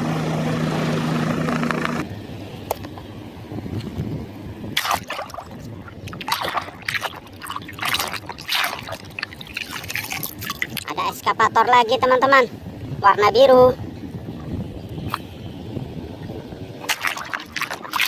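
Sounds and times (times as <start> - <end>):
helicopter humming: 0.0 - 18.0
water splashing and sloshing: 2.0 - 13.0, 13.8 - 18.0.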